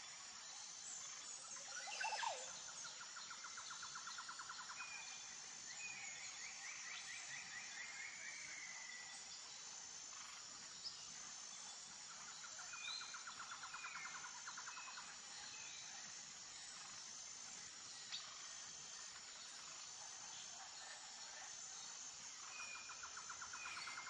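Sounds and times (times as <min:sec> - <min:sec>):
high insect hum: 0:00.0 - 0:24.0.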